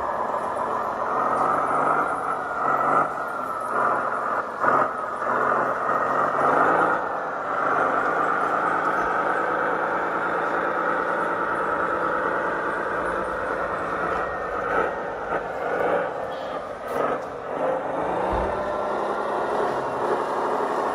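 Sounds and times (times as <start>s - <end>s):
model truck motor drone: 0.0s - 20.9s.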